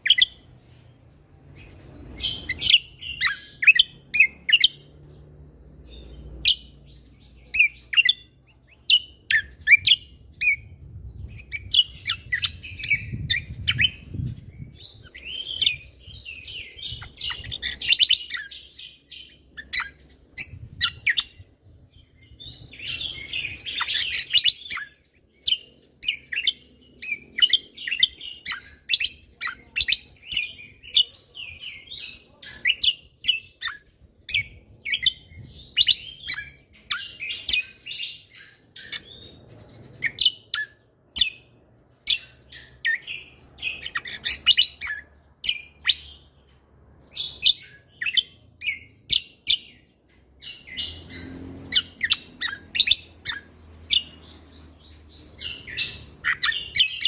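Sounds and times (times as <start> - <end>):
bird chirping and whistling: 0.0 - 0.4, 1.6 - 4.9, 5.9 - 21.4, 22.0 - 31.1, 31.8 - 39.4, 40.0 - 46.3, 47.1 - 49.8, 50.4 - 57.0.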